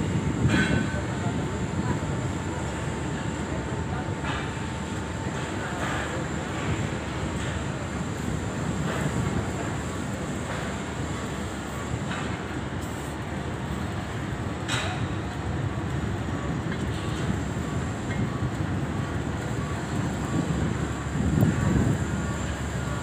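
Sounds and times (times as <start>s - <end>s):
crane machinery rumbling: 0.0s - 23.0s.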